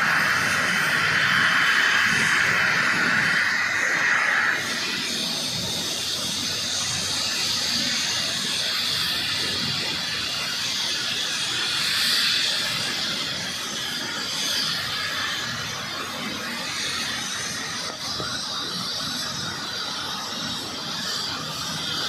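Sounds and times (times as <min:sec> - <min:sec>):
helicopter low rumble: 0:00.0 - 0:22.0
helicopter turbine hiss: 0:00.0 - 0:22.0.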